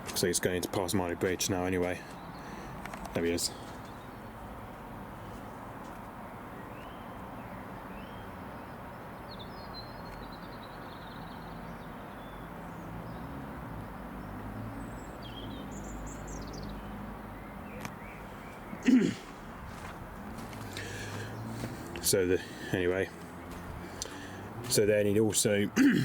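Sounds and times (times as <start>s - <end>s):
birds chirping: 0.0s - 26.0s
outdoor background noise: 0.0s - 26.0s
distant light aircraft engine: 1.2s - 24.7s.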